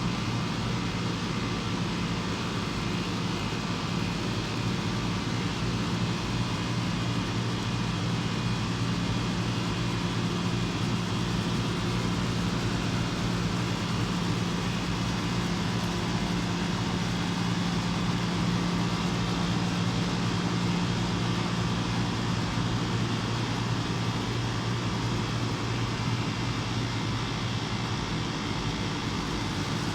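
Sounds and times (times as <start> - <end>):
compressor hum: 0.0 - 29.9
condenser fan rushing: 0.0 - 29.9.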